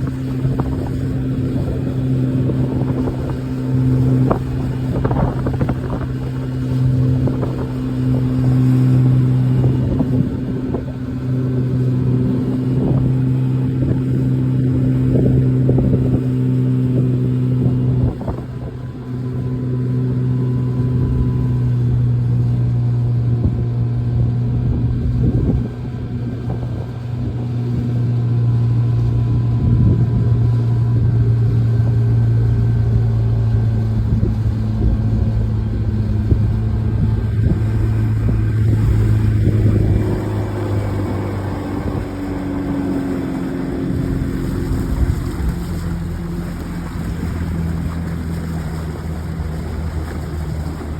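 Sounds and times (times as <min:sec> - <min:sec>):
boat engine running: 0:00.0 - 0:50.9
wind buffeting microphone: 0:00.0 - 0:50.9.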